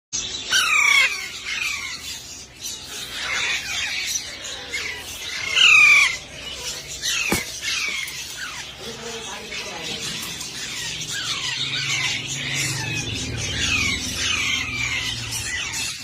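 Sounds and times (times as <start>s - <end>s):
parrot chicks calling: 0.2s - 16.0s.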